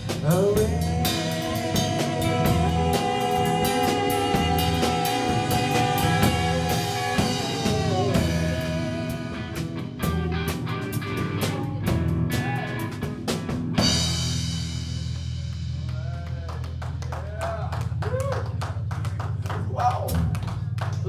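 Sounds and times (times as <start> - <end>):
electric guitar: 0.0 - 17.2
drum kit: 0.0 - 21.0.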